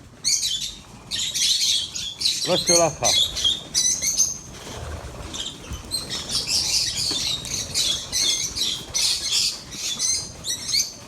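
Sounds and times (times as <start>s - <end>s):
lovebirds squawking and chattering: 0.2s - 11.0s.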